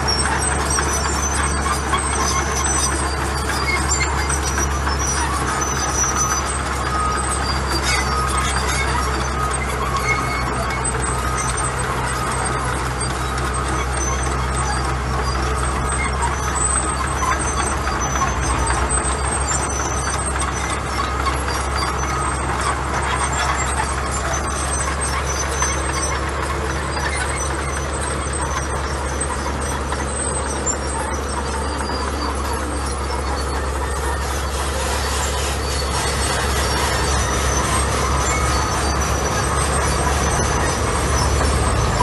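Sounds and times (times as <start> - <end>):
diesel engine running: 0.0 - 42.0
high squeaks: 0.0 - 42.0.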